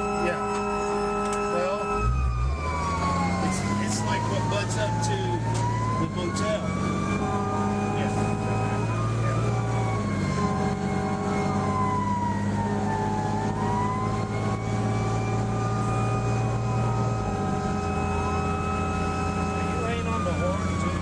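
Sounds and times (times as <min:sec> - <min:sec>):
fire truck siren wailing: 0:00.0 - 0:21.0.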